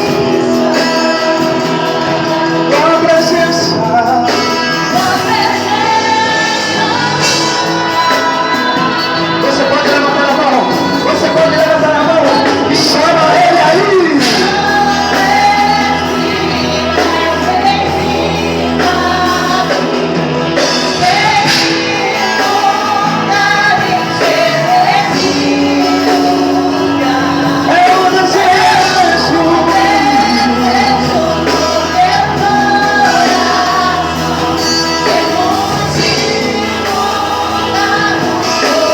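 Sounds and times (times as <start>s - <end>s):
keyboard and band accompaniment: 0.0s - 38.9s
people singing: 0.0s - 38.9s.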